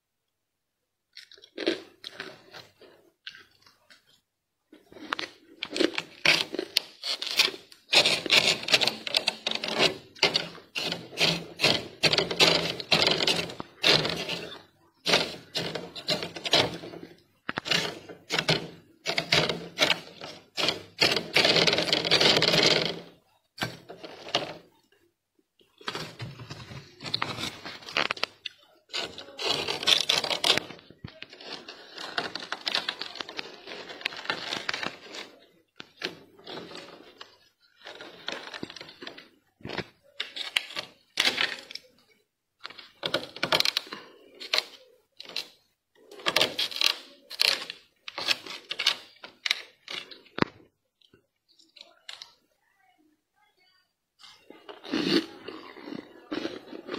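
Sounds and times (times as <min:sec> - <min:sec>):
frost crunching and scraping: 0:01.2 - 0:24.8, 0:25.7 - 0:52.4, 0:54.2 - 0:56.9.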